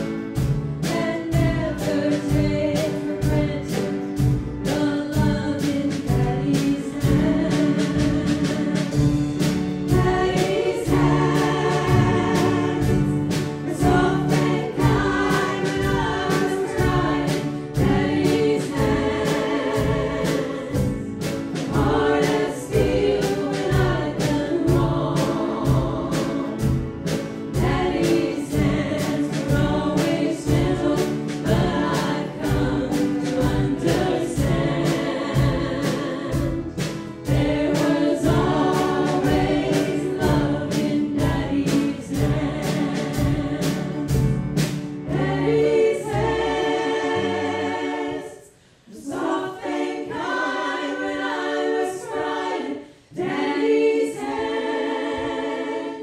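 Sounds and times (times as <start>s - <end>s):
acoustic band playing a beat: 0.0s - 48.2s
women singing in harmony: 0.8s - 26.8s, 27.5s - 44.2s, 45.0s - 56.0s.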